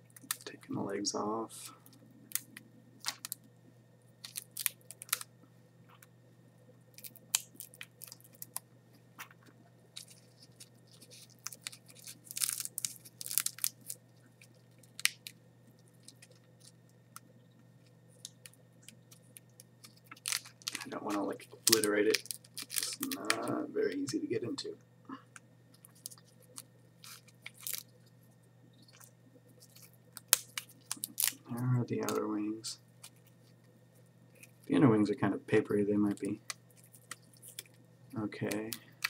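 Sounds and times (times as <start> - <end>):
dry insect shell crackling: 0.0 - 0.6, 1.6 - 3.5, 4.2 - 5.3, 6.9 - 24.2, 25.3 - 34.8, 36.1 - 39.0.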